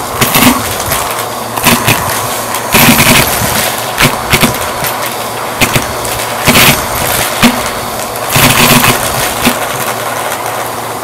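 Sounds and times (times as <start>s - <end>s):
vacuum cleaner air rush: 0.0s - 11.0s.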